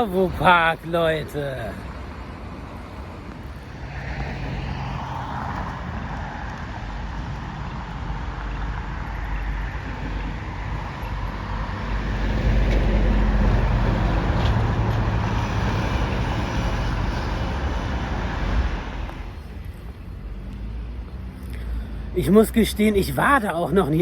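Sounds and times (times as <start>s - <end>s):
road vehicle rumble with hiss: 0.0s - 24.0s.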